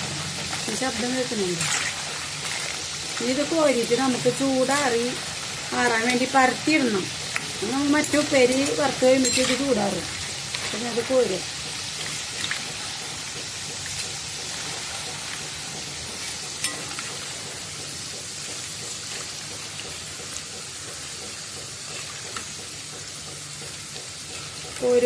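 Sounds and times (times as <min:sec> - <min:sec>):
deep-frying sizzle: 0:00.0 - 0:25.0.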